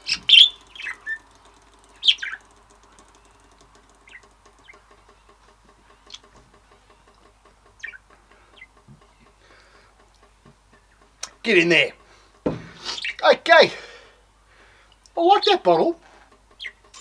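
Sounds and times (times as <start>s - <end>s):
bird chirping: 0.0s - 13.6s, 15.2s - 17.0s.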